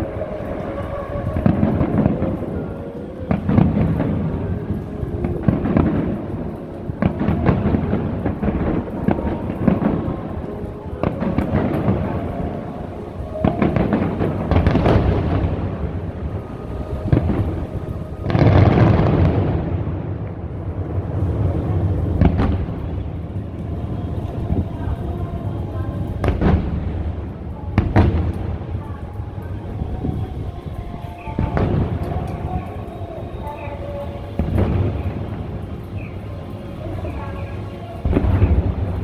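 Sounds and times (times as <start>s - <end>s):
fireworks booming and crackling: 0.0s - 39.0s
music playing: 0.0s - 39.0s.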